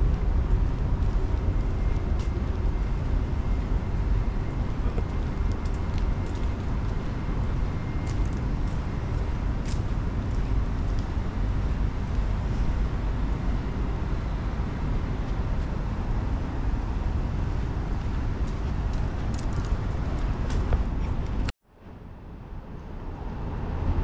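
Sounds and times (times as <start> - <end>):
wind on the microphone: 0.0 - 21.5
distant road traffic: 0.0 - 24.0.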